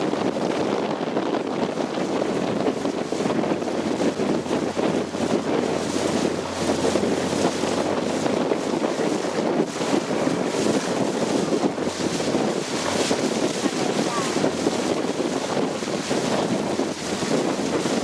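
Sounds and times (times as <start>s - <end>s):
water rushing past hull: 0.0s - 18.0s
wind buffeting microphone: 0.0s - 18.0s
motorboat engine droning: 0.1s - 18.0s.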